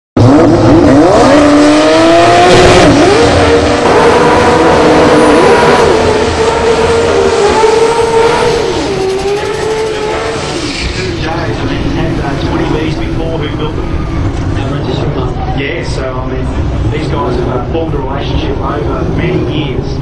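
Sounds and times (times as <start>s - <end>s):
race car engine revving: 0.2s - 20.0s.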